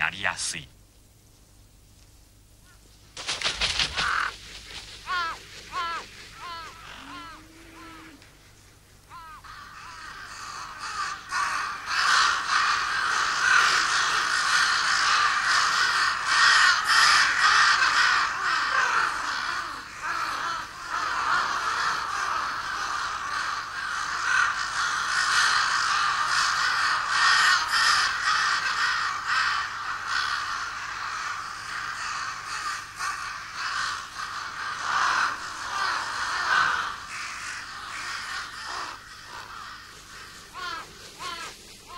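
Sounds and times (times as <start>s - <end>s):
flock of crows cawing: 2.7s - 8.4s, 9.0s - 41.9s.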